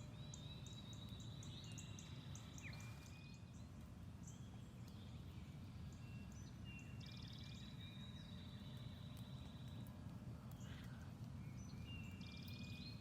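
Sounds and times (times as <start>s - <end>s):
small songbirds singing: 0.0s - 13.0s.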